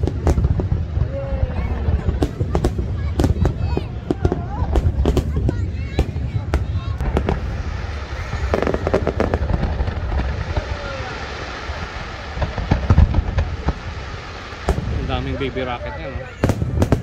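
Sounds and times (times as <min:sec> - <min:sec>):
fireworks booms: 0:00.0 - 0:17.0
fireworks crackling: 0:00.0 - 0:17.0.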